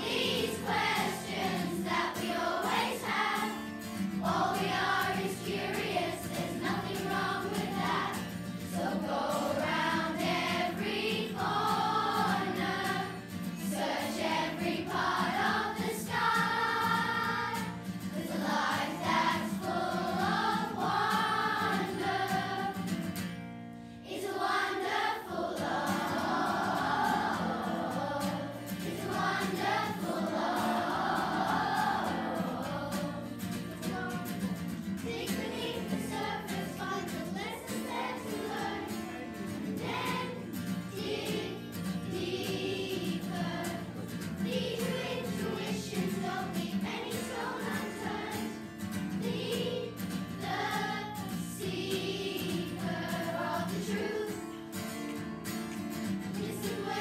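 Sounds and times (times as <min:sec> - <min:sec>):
children's choir singing: 0:00.0 - 0:23.2, 0:24.0 - 0:57.0.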